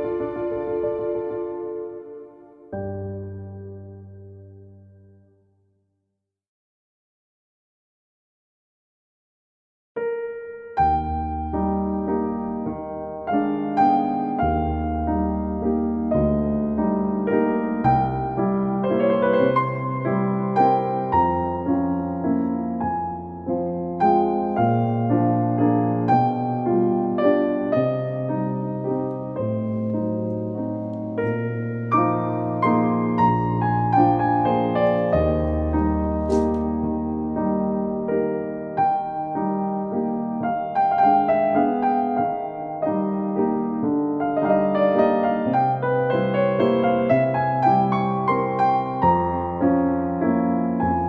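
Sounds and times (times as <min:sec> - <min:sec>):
gentle piano music: 0:00.0 - 0:05.7, 0:10.0 - 0:51.0.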